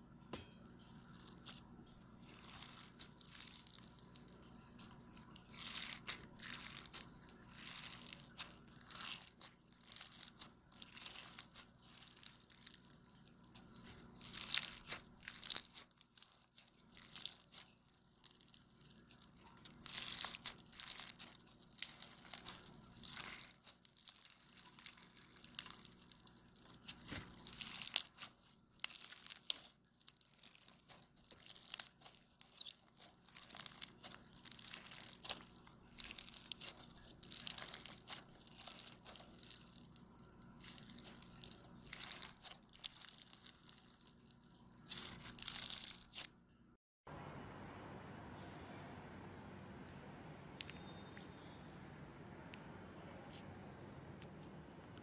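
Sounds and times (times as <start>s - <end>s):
bead slime crunchy crackling: 0.8s - 46.3s.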